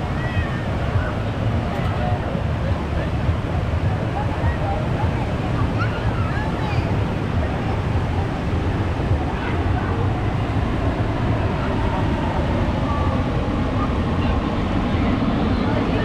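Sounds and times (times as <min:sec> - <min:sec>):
jet engines rumbling past: 0:00.0 - 0:16.0.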